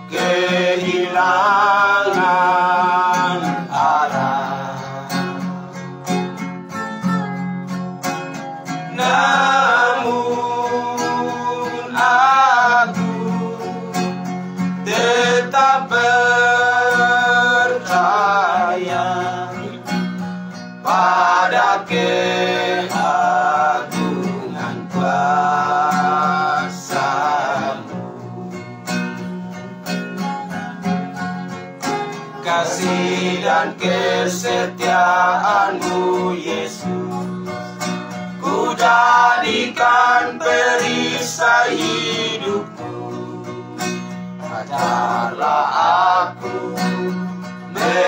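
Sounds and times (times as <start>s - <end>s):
men singing together: 0.0s - 5.8s, 8.9s - 20.2s, 20.8s - 29.2s, 32.3s - 48.0s
plucked string accompaniment: 0.0s - 48.0s.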